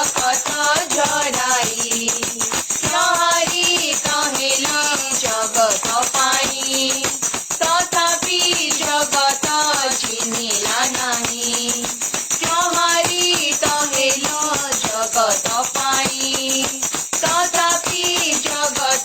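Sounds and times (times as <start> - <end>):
fast percussion rhythm: 0.0 - 19.0.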